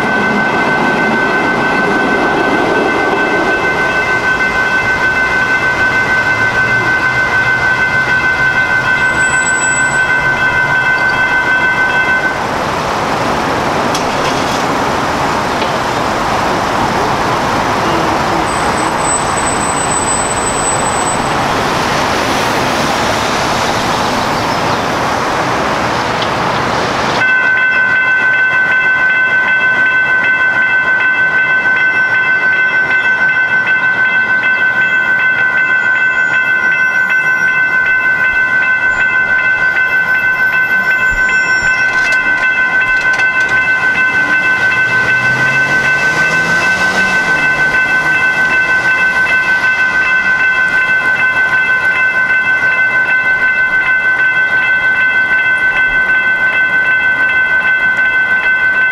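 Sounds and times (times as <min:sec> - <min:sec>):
railroad crossing bells ringing: 0:00.0 - 0:58.9.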